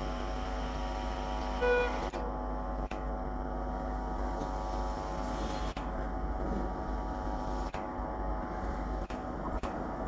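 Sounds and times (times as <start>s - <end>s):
diesel locomotive engine drone: 0.0s - 10.0s.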